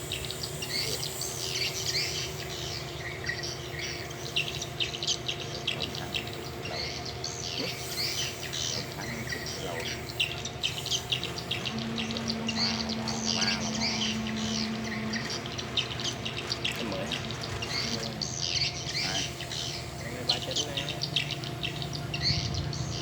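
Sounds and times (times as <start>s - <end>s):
birds chirping: 0.0s - 23.0s
low steady hum: 0.0s - 23.0s.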